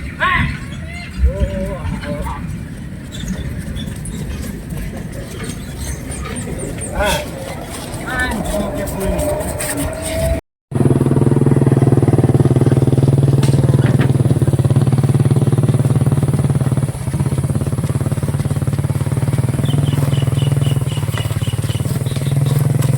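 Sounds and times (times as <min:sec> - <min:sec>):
small engine running: 0:03.2 - 0:22.9.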